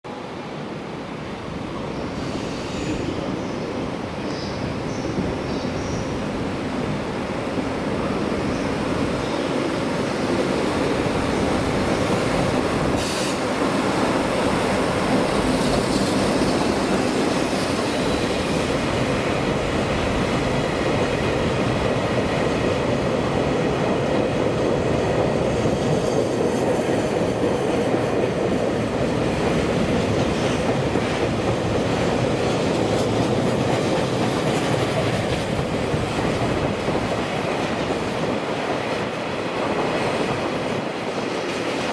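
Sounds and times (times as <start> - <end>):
train wheels rumbling on track: 0.1 - 41.9.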